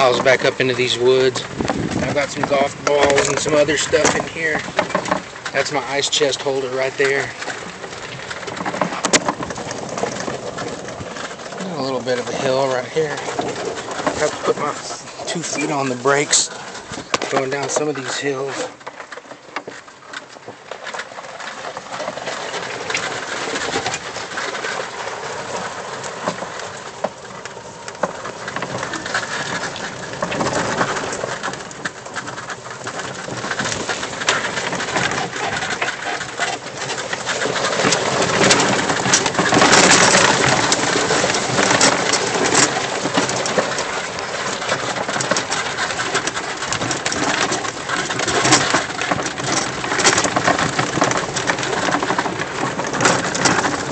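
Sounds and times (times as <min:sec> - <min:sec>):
gear rattling in cart: 0:00.0 - 0:53.9
golf cart driving on dirt trail: 0:00.0 - 0:53.9.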